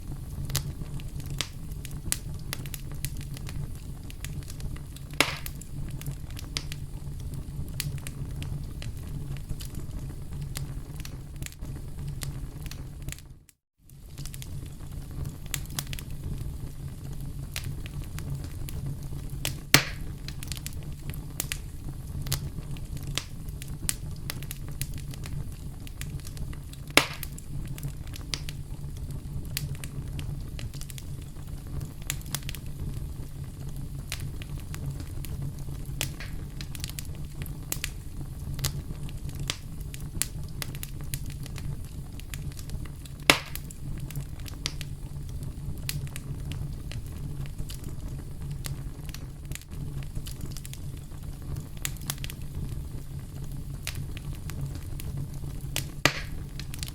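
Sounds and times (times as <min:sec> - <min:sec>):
campfire crackling and popping: 0:00.0 - 0:56.9.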